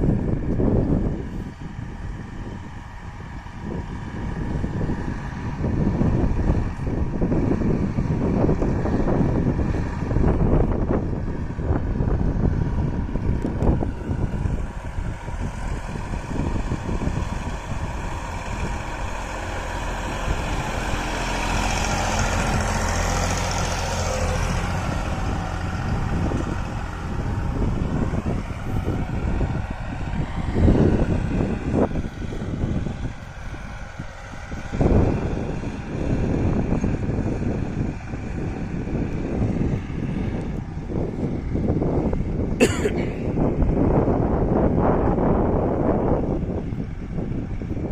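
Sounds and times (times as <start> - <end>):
tractor diesel engine running: 0.0 - 47.9
wind buffeting microphone: 0.0 - 47.9.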